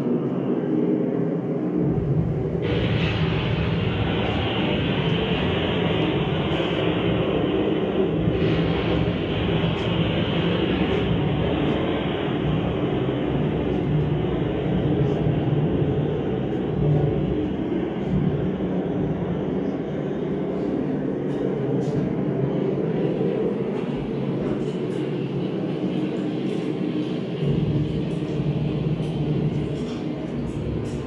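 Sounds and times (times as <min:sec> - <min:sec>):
low rumbling drone: 0:00.0 - 0:31.0.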